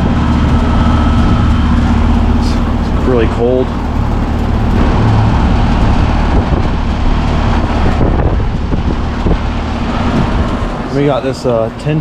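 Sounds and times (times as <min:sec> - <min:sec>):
compressor hum: 0:00.0 - 0:12.0
condenser fan air rushing: 0:00.0 - 0:12.0.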